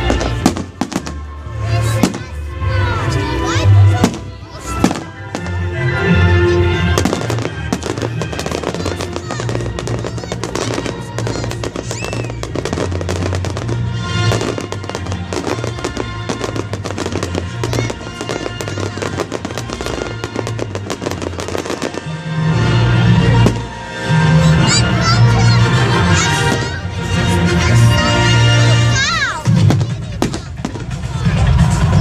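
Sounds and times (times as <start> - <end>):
background music: 0.0 - 32.0
fireworks crackling and banging: 0.0 - 32.0.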